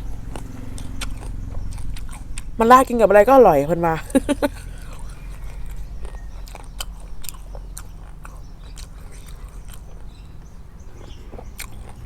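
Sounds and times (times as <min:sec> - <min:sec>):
person chewing crunchy food: 0:00.0 - 0:02.6, 0:04.5 - 0:12.0.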